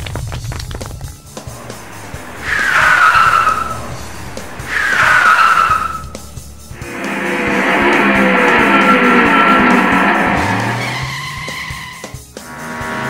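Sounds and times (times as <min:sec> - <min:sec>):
background music: 0:00.0 - 0:13.0
engine revving with tyres screeching: 0:01.2 - 0:13.0
cartoon tyre squeals: 0:01.6 - 0:12.2.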